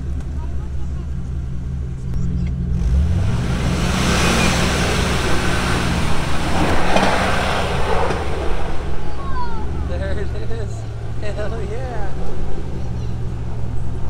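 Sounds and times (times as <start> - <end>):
car engine revving: 0.0 - 14.0
tyres churning dirt: 0.0 - 14.0.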